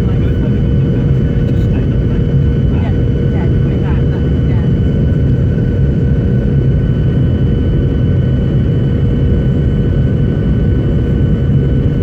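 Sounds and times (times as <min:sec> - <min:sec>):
aircraft cabin engine rush: 0:00.0 - 0:12.0.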